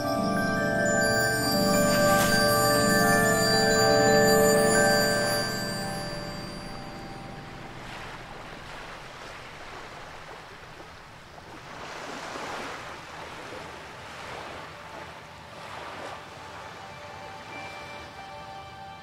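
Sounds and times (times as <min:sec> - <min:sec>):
waves washing onto beach: 0:00.0 - 0:17.7.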